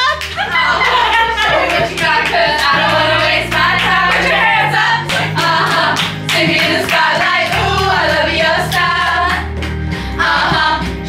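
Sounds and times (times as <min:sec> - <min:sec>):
people clapping: 0:00.0 - 0:10.9
pop backing track: 0:00.0 - 0:11.0
women singing along: 0:00.4 - 0:11.0.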